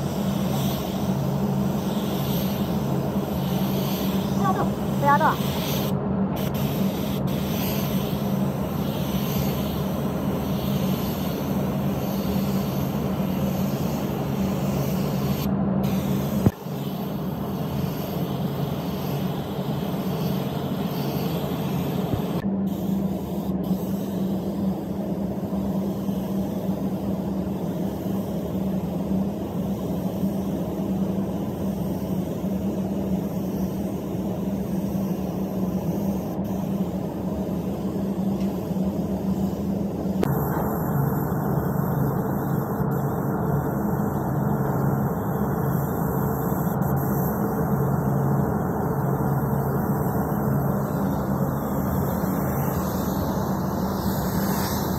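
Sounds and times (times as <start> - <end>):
paint spray gun hissing: 0.0 - 54.9
steady low hum: 0.0 - 54.9.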